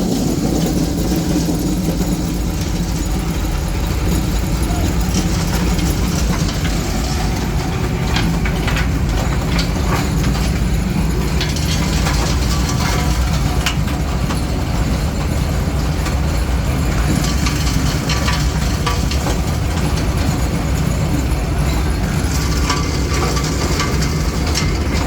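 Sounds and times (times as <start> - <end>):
clattering knocks and rattles: 0.0 - 25.0
grinding mill rumbling: 0.0 - 25.0.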